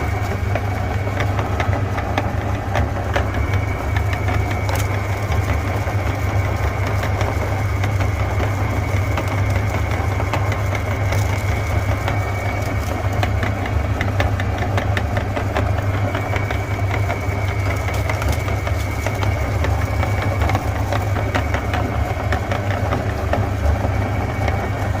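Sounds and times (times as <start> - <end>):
meat grinder motor humming: 0.0 - 25.0
small crackles from grinder auger: 0.0 - 25.0.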